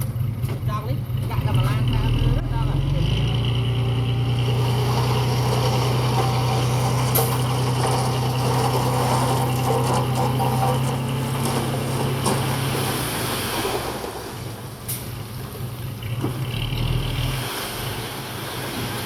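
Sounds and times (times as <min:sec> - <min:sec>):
heavy diesel engine grinding: 0:00.0 - 0:19.0.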